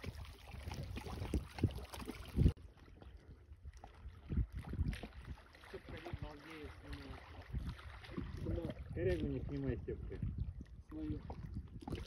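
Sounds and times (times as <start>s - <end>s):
river water lapping: 0.0s - 12.0s
wind buffeting microphone: 0.0s - 12.0s.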